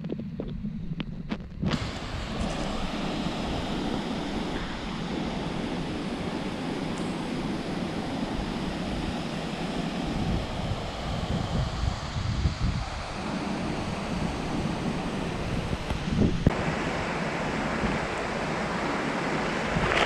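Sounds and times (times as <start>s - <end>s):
waterfall rushing with deep rumble: 1.7s - 20.0s.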